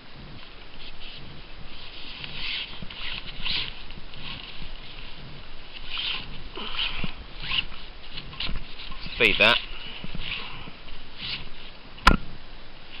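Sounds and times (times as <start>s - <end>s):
nylon sail cloth rustling: 0.0s - 13.0s.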